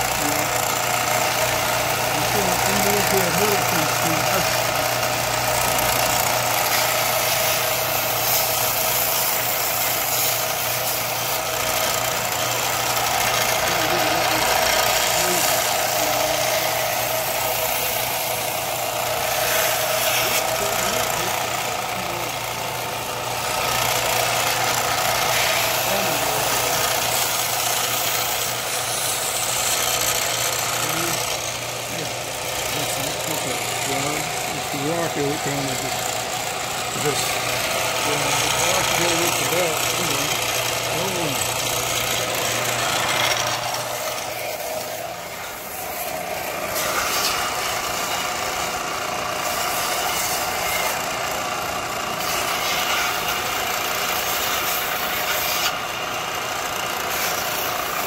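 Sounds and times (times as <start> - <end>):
belt grinder grinding steel: 0.0 - 58.0
motor hum: 0.0 - 58.0.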